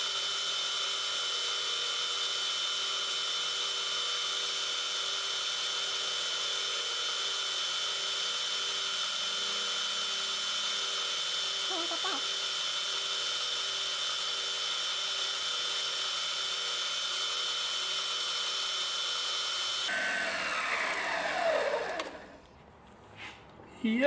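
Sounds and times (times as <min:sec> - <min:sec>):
lathe tool cutting steel: 0:00.0 - 0:22.4
lathe whining: 0:00.0 - 0:22.4.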